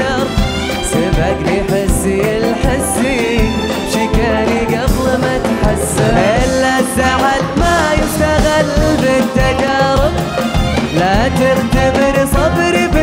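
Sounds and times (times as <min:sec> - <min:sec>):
man singing: 0:00.0 - 0:13.0
string section and percussion: 0:00.0 - 0:13.0.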